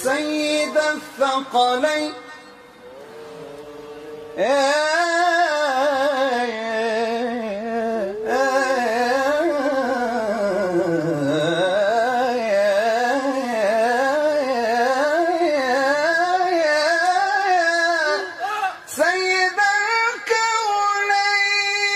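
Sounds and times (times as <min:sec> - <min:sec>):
man singing melismatic devotional song: 0:00.0 - 0:21.9.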